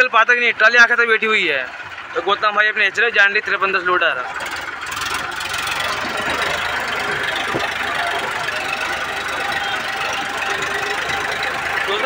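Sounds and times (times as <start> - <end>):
diesel tractor engines under load: 0.0 - 12.0.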